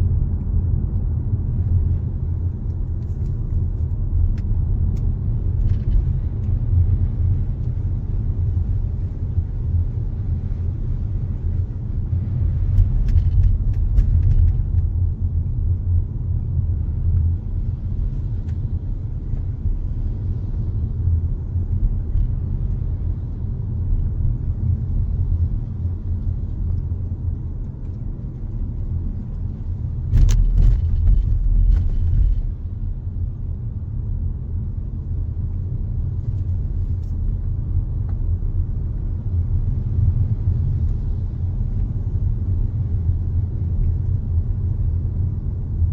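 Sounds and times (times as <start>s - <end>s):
car driving rumble: 0.0s - 45.9s.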